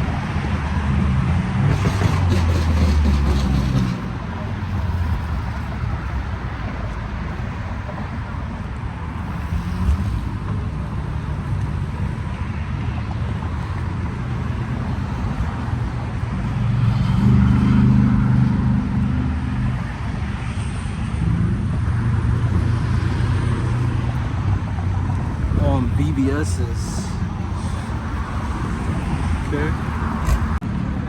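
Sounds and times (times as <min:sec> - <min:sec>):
car engines running: 0:00.0 - 0:31.0.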